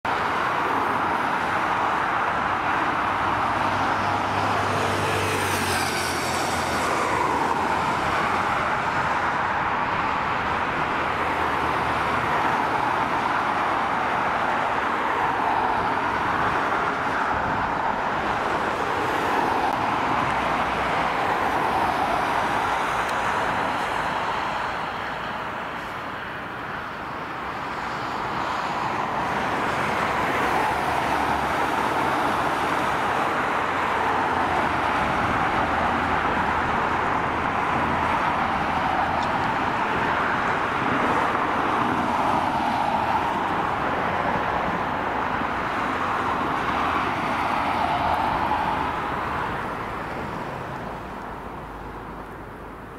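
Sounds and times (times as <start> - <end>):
jet engines hiss and rumble: 0.1 - 52.9.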